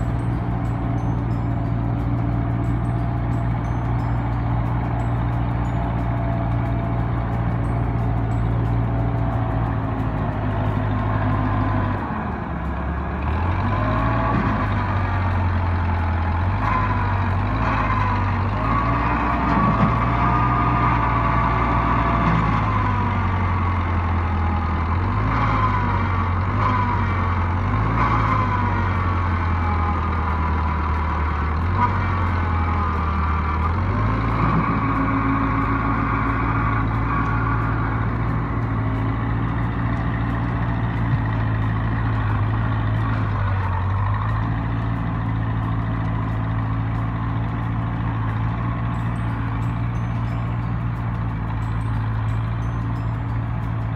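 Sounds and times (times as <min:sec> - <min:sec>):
backhoe diesel engine working: 0:00.0 - 0:53.9.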